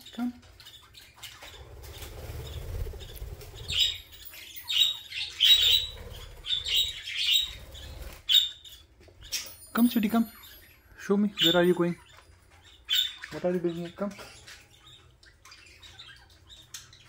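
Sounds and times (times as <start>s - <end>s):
budgerigar chirping: 0.6s - 17.0s.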